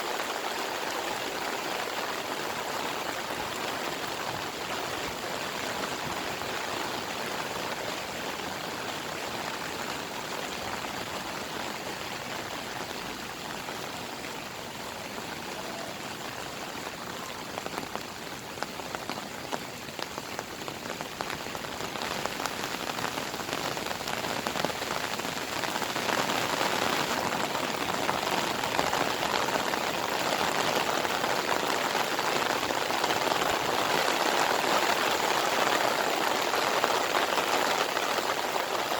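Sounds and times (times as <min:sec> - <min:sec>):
heavy rain falling: 0:00.0 - 0:38.9
raindrops pattering on surfaces: 0:00.0 - 0:38.9.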